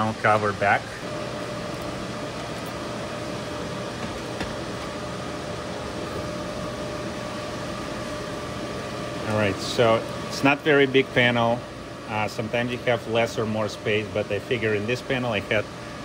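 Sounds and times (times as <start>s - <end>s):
cooling fans whirring: 0.0s - 16.0s.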